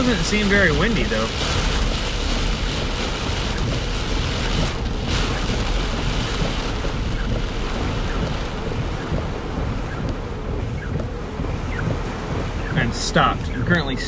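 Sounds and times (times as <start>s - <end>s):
heavy rain drumming on car roof: 0.0s - 14.0s.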